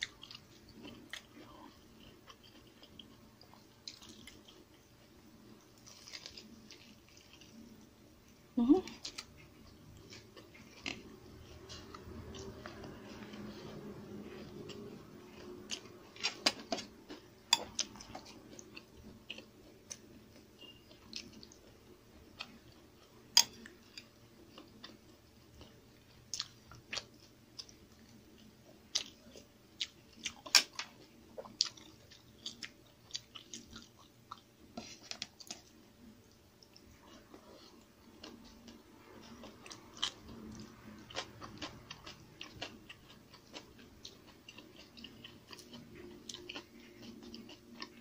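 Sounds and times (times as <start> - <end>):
person chewing food: 0.0 - 48.0.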